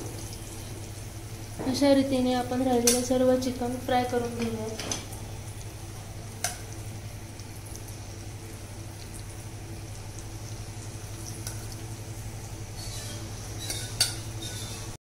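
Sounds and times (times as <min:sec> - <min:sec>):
chicken sizzling in hot oil: 0:00.0 - 0:15.0
low steady hum: 0:00.0 - 0:15.0.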